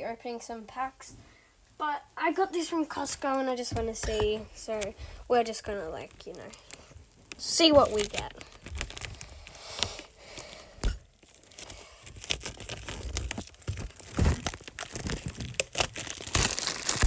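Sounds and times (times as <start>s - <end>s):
plastic shrink-wrap crinkling: 3.2s - 17.0s.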